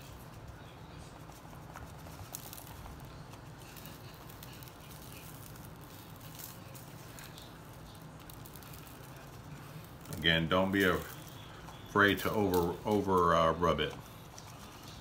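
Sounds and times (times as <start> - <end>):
hand rubbing seasoning into meat: 0.0 - 15.0
low steady hum: 0.0 - 15.0.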